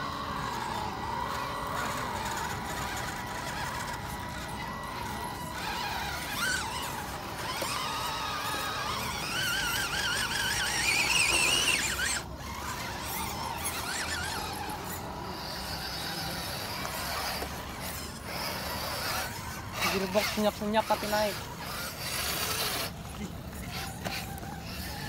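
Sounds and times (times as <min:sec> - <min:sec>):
electric motor and gearbox whining: 0:00.0 - 0:25.0.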